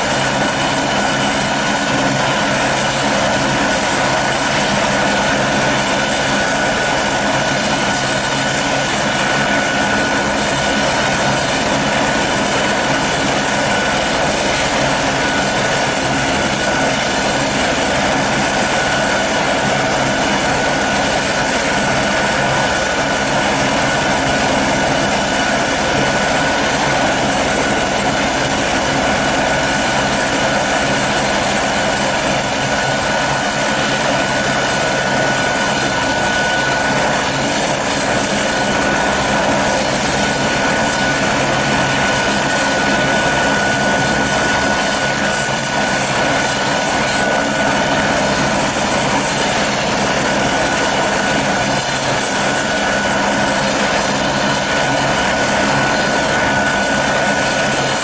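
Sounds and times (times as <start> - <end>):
helicopter running: 0.0 - 58.0
high turbine whine: 0.0 - 58.0.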